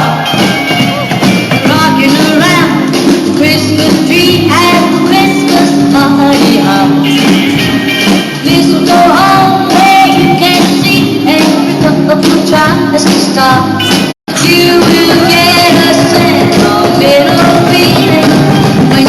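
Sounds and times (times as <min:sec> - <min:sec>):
person singing: 0:00.0 - 0:07.6, 0:08.4 - 0:19.0
live band playing: 0:00.0 - 0:19.0.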